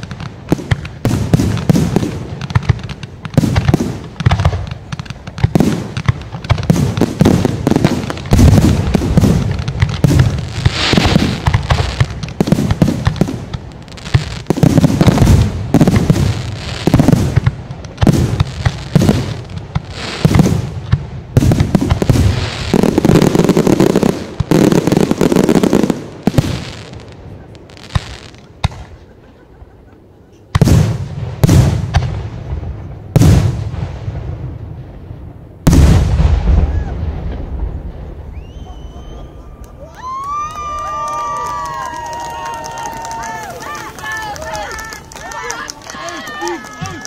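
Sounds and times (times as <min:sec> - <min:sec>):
fireworks bangs and crackling: 0:00.0 - 0:29.3, 0:30.5 - 0:47.0.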